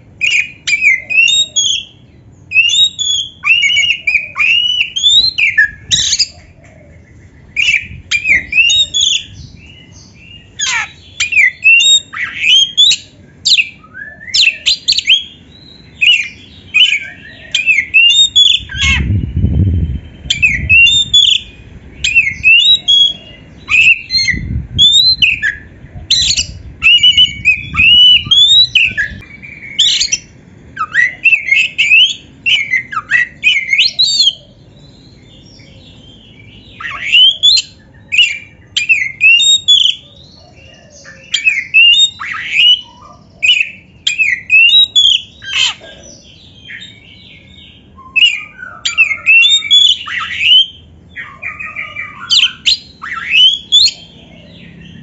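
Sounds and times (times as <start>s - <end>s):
bird singing whistled notes: 0.2s - 55.0s.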